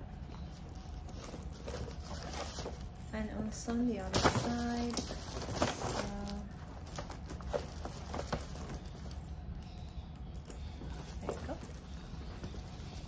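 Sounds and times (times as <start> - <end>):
leather handbag rustling: 0.2 - 9.4, 10.4 - 13.0.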